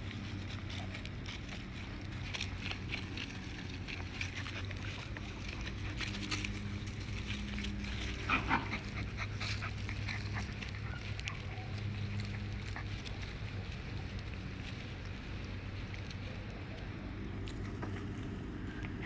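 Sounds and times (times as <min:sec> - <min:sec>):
puppies whimpering: 0:00.0 - 0:16.0
low hum: 0:00.0 - 0:19.0.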